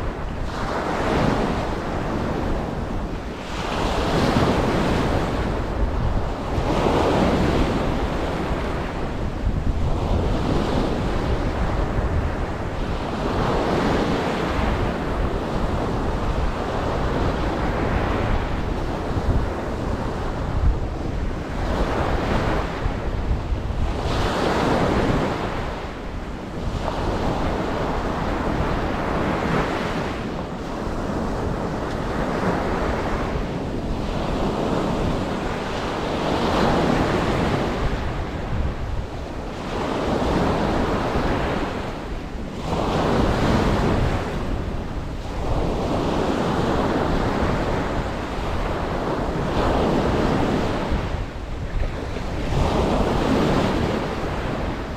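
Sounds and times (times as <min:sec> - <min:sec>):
ocean waves breaking on a beach: 0:00.0 - 0:54.9.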